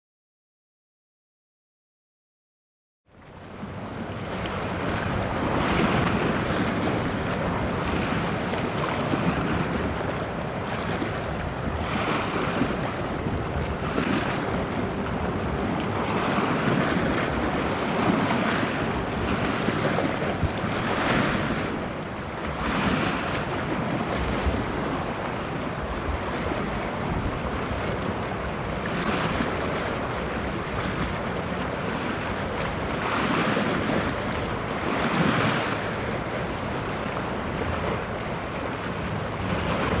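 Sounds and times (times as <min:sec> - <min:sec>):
water washing against shore: 0:03.3 - 0:40.0
wind on microphone: 0:03.3 - 0:40.0.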